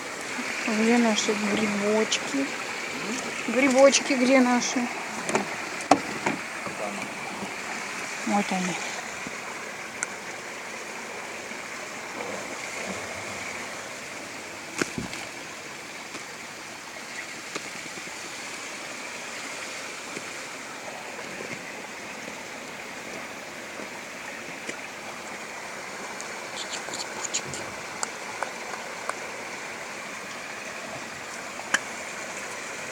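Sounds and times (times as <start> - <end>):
stream water rushing: 0.0 - 32.9.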